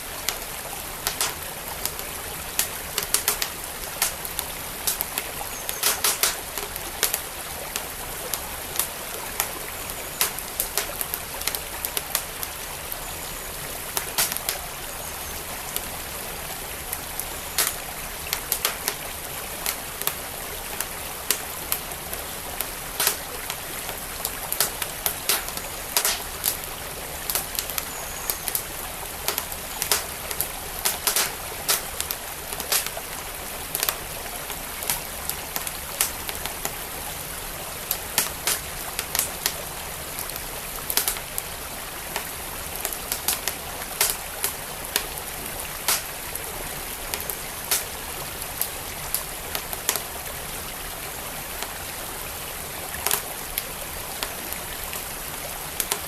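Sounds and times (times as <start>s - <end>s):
wood fire crackling and popping: 0.0s - 14.9s, 15.6s - 50.3s, 53.0s - 53.4s, 55.7s - 56.0s
stream flowing: 0.0s - 56.0s.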